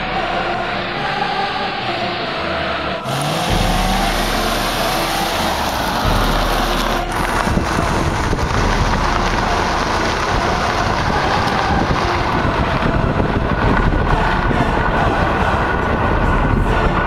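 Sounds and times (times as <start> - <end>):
van driving rumble: 0.0 - 17.0
wind buffeting microphone: 3.2 - 17.0.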